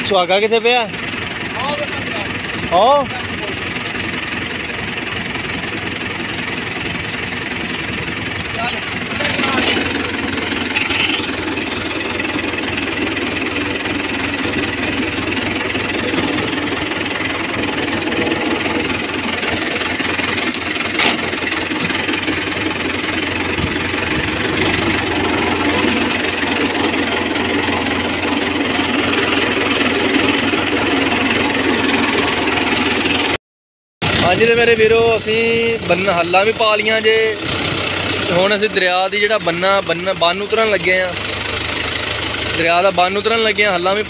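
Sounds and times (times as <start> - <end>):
tractor diesel engine running: 0.0 - 33.4, 34.0 - 44.0.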